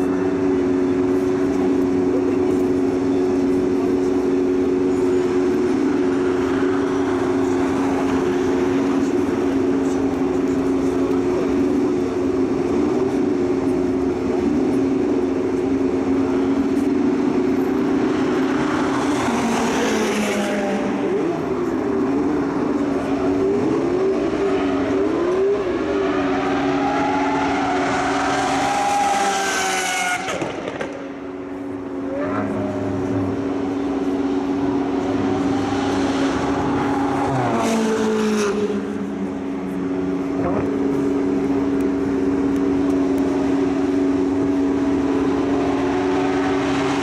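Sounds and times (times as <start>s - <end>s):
cars revving and passing: 0.0s - 47.0s
steady engine drone: 0.0s - 47.0s.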